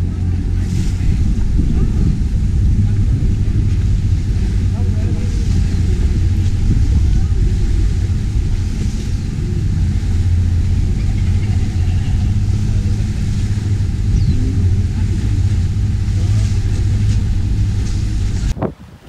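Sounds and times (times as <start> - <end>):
speedboat engine rumbling: 0.0 - 19.0
water rushing past hull: 0.0 - 19.0
wind: 0.0 - 19.0.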